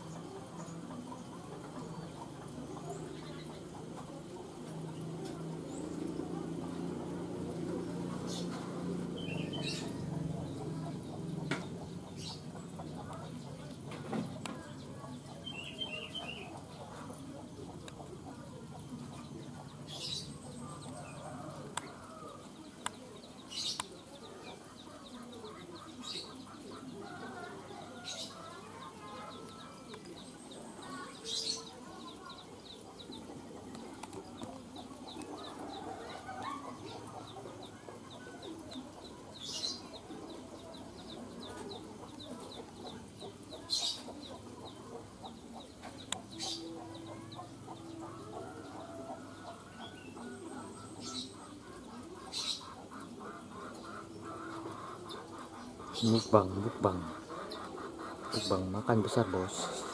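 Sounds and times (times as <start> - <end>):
chatter of bird calls: 0.0 - 59.9.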